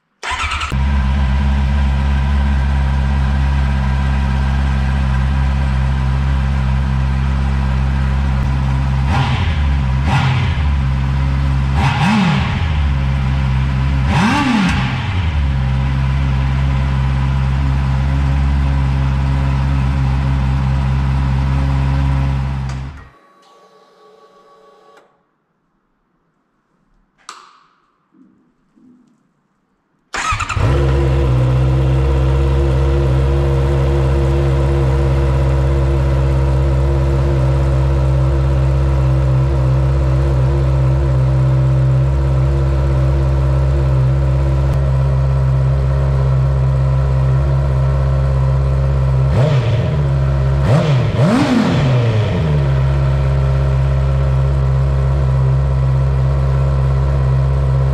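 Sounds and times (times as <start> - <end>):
motorcycle engine idling and revving: 0.2 - 23.2, 30.2 - 57.9.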